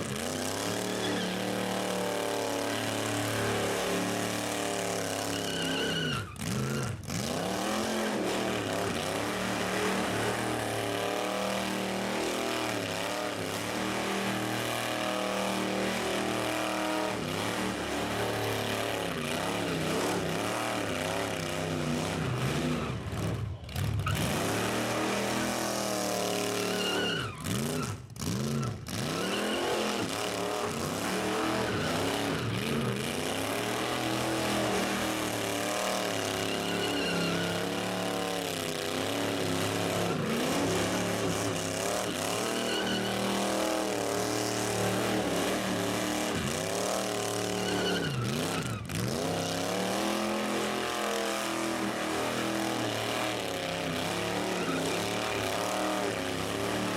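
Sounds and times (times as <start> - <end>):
car engine revving hard: 0.0 - 56.9.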